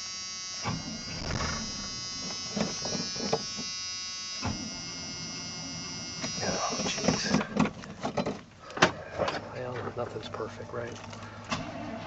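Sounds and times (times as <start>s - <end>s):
idling engine whine: 0.0s - 12.0s.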